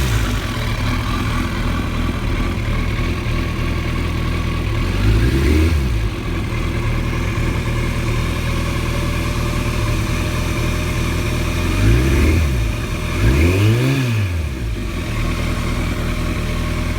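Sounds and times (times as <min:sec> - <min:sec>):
car engine idling roughly: 0:00.0 - 0:13.2, 0:14.8 - 0:16.9
engine revving: 0:00.0 - 0:16.9.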